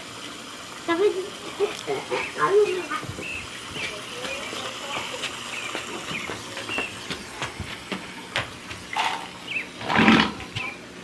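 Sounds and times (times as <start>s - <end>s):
water splashing into a tank: 0.0s - 11.0s.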